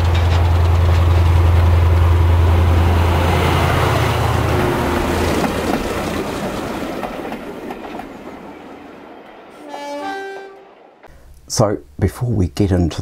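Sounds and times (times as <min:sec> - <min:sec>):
model train coaches rumbling: 0:00.0 - 0:11.6.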